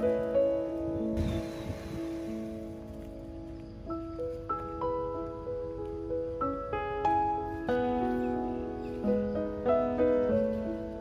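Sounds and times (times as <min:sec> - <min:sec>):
slow keyboard melody: 0:00.0 - 0:11.0.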